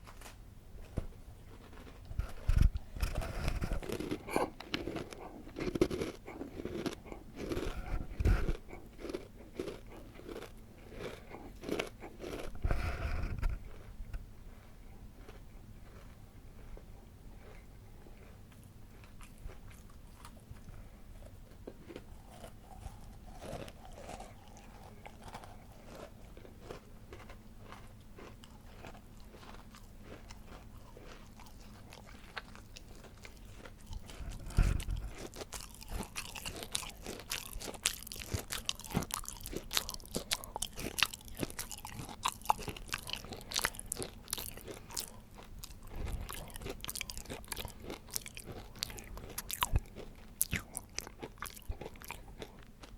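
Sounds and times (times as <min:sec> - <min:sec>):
person chewing: 0:01.4 - 0:52.9
crisp crunching: 0:01.5 - 0:12.8, 0:21.6 - 0:52.9.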